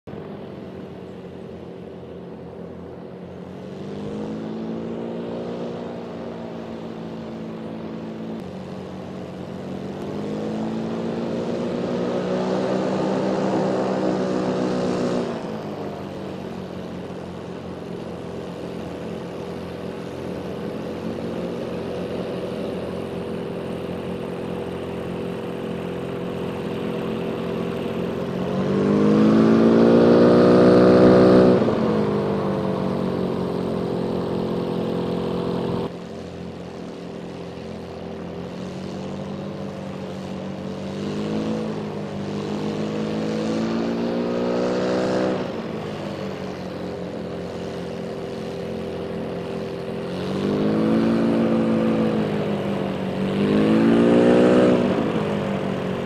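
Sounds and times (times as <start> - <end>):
propeller engine running: 0.0 - 56.0.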